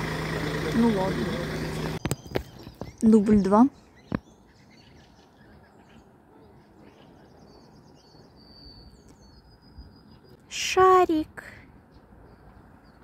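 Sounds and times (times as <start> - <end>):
faint high birdsong: 0.2 - 13.0.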